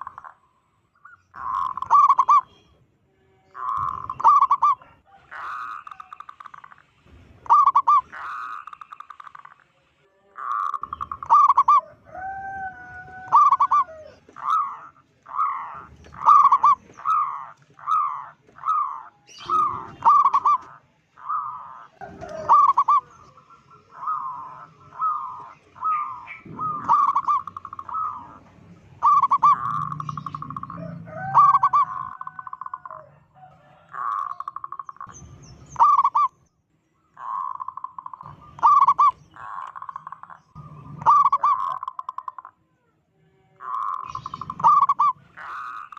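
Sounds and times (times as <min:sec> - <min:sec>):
dove cooing: 0:01.3 - 0:02.5, 0:03.6 - 0:06.8, 0:07.4 - 0:09.4, 0:10.4 - 0:36.4, 0:37.2 - 0:42.6, 0:43.6 - 0:45.9.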